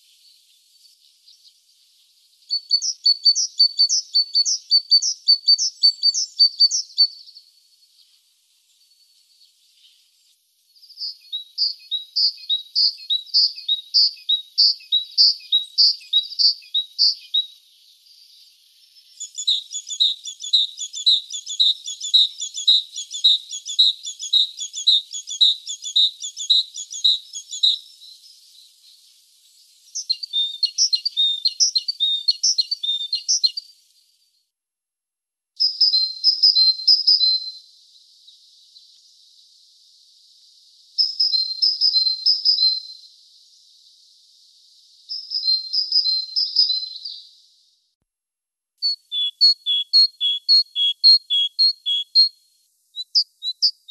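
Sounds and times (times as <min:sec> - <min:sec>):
great tit singing: 0:02.3 - 0:08.0, 0:10.8 - 0:33.8, 0:35.6 - 0:47.6, 0:48.8 - 0:53.9.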